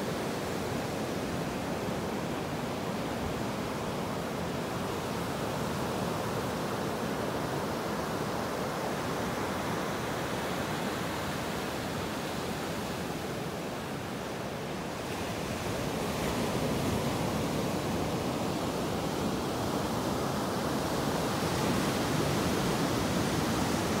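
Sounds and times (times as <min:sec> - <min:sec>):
ocean surf washing up beach: 0:00.0 - 0:24.0.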